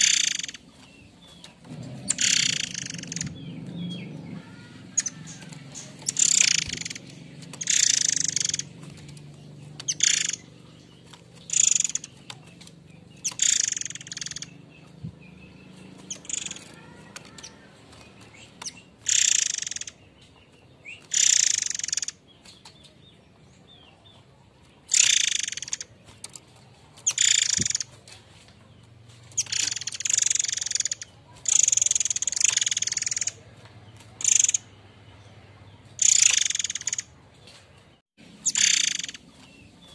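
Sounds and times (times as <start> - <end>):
bird harsh rasping calls: 0.0 - 22.6, 24.7 - 37.2, 38.3 - 39.9.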